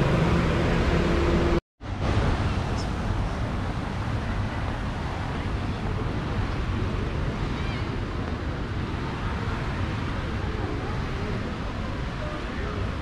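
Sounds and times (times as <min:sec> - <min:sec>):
traffic rumble: 0:00.0 - 0:13.0
wind: 0:00.0 - 0:13.0
faint voices of passers-by: 0:02.4 - 0:13.0.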